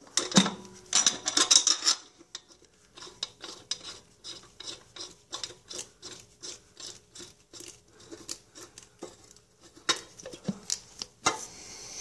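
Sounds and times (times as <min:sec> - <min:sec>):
metal parts scraping: 0:00.1 - 0:10.2.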